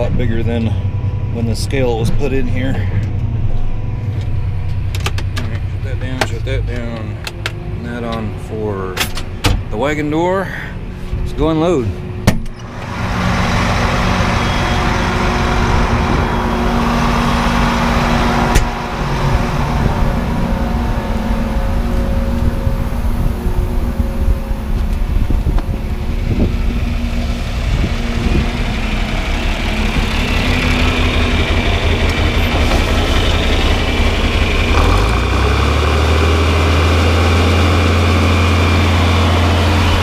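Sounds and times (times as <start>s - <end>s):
machinery humming: 0.0s - 40.0s.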